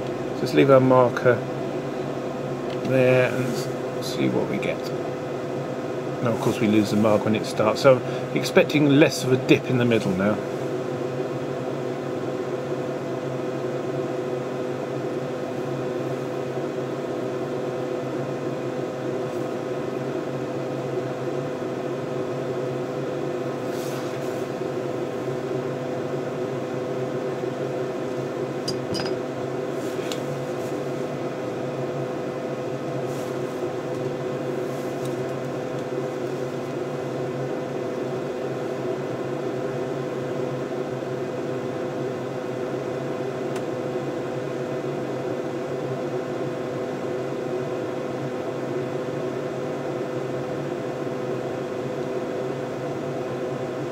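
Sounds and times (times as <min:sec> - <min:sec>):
equipment hum and fan noise: 0:00.0 - 0:53.9.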